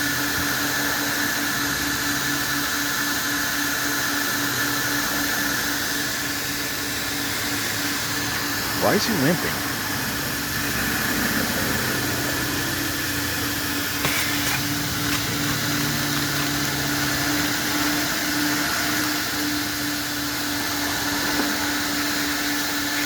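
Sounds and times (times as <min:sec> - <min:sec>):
vacuum running: 0:00.0 - 0:23.0.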